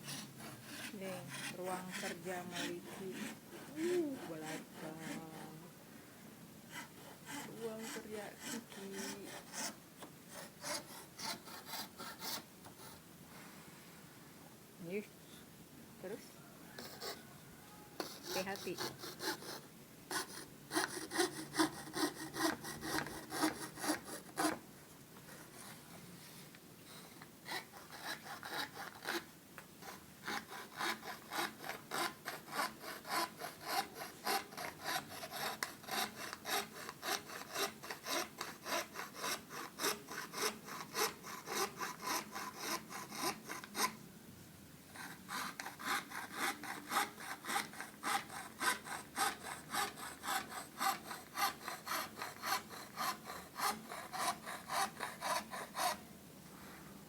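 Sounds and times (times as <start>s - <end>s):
hand saw cutting plywood: 0.0s - 5.6s, 6.7s - 13.0s, 18.0s - 24.6s, 27.4s - 44.0s, 45.0s - 56.0s.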